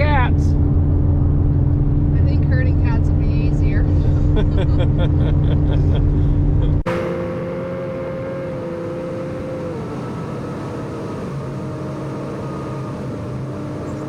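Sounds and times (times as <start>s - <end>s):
humming whine: 0.0s - 14.0s
vehicle engine and road noise: 0.0s - 14.0s.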